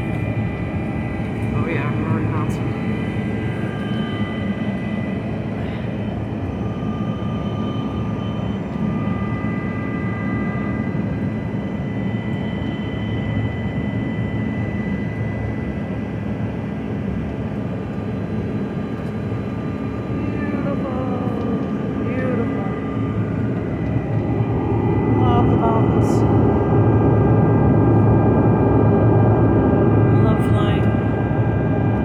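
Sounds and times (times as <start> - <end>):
airliner cabin engine drone: 0.0 - 32.0
thin steady whines: 0.0 - 32.0.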